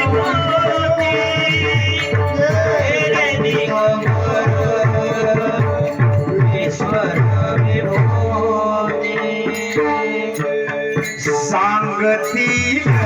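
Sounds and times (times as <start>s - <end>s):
hand drum rhythm: 0.0s - 13.0s
held instrumental tones: 0.0s - 13.0s.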